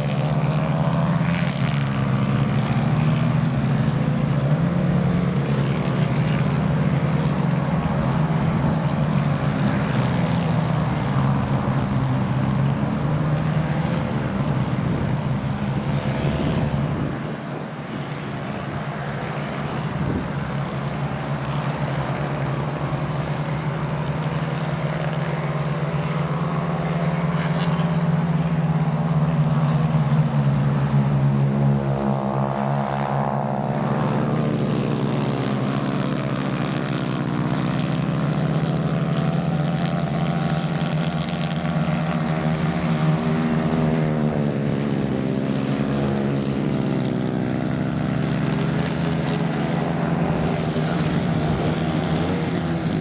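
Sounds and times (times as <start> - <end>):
kart engines droning: 0.0 - 53.0.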